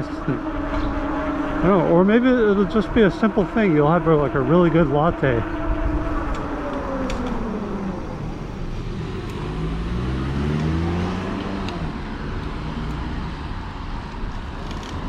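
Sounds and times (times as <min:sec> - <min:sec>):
motor vehicle passing: 0:00.0 - 0:15.0
road and wind noise: 0:00.0 - 0:15.0.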